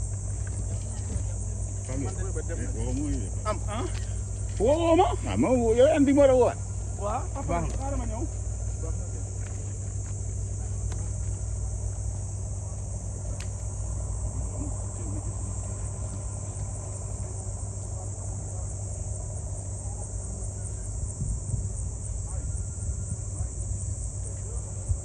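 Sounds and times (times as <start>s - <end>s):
insects shrilling: 0.0s - 21.0s.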